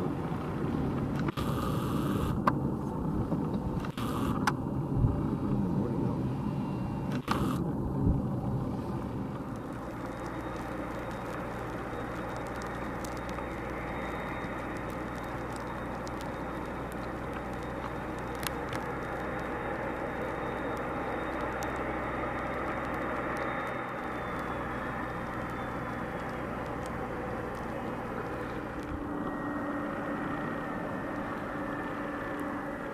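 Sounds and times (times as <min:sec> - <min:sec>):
jet engines rumbling with whine: 0:00.0 - 0:32.9.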